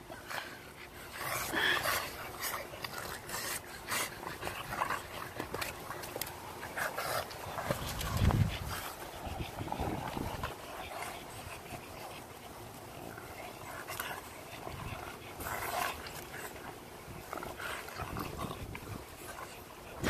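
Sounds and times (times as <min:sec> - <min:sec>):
dogs breathing and snuffling: 0:00.0 - 0:20.0
dogs play-fighting: 0:00.0 - 0:20.0.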